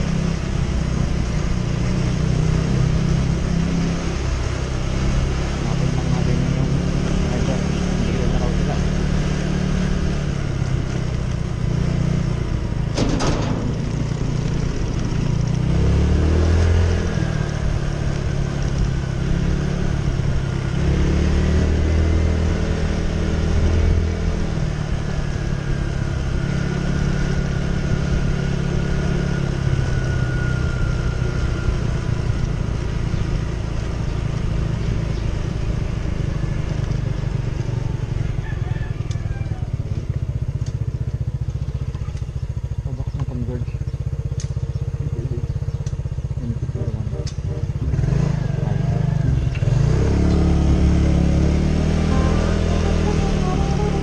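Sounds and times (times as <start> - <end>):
scooter engine running: 0.0 - 54.0
wind and road noise: 0.0 - 54.0.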